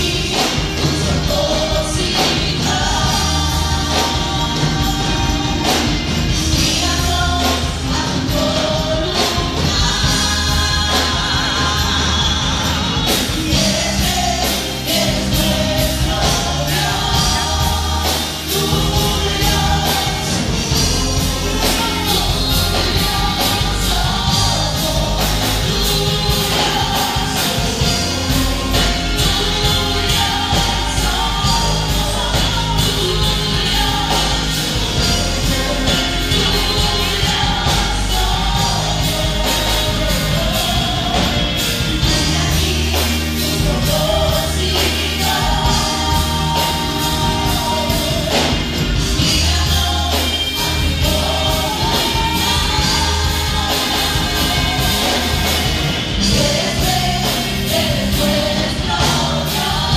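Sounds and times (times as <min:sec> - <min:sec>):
band with bass and drums: 0:00.0 - 0:59.9
women singing into microphones: 0:00.0 - 0:59.9.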